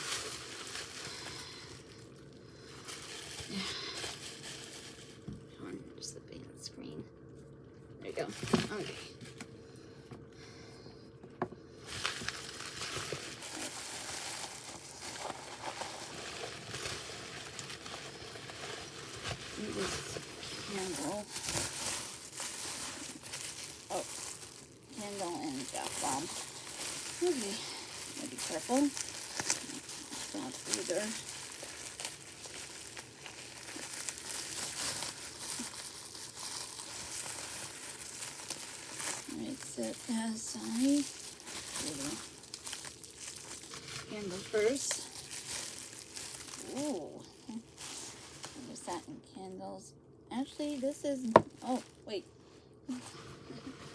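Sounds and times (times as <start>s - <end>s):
packing material crinkling: 0.0s - 5.3s, 8.2s - 9.5s, 11.8s - 49.1s, 50.4s - 53.9s.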